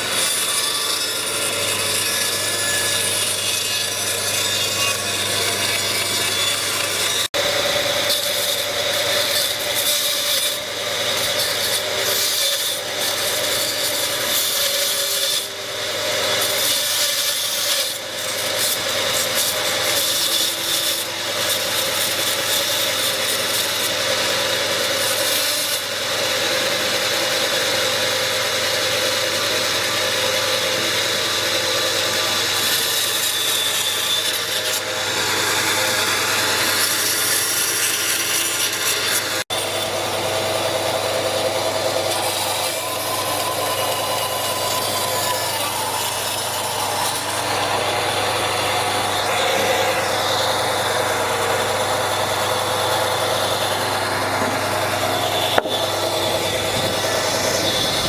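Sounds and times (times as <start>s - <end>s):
wood being sawn: 0.0s - 58.0s.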